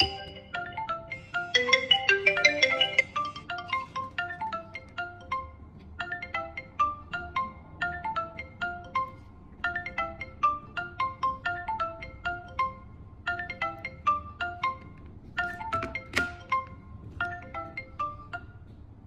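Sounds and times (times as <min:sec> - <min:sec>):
marimba ringtone melody: 0:00.0 - 0:18.8.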